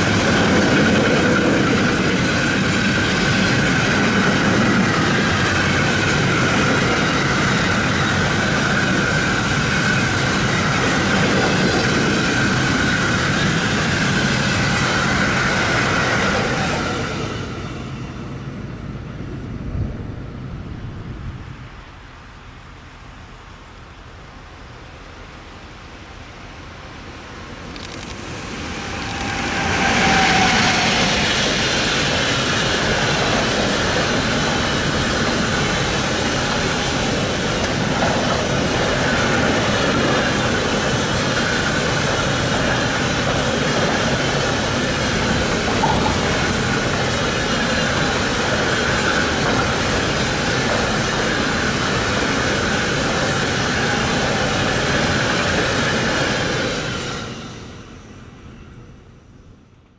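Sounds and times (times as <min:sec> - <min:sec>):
train wheels on rails: 0:00.0 - 0:22.3, 0:23.3 - 0:59.9.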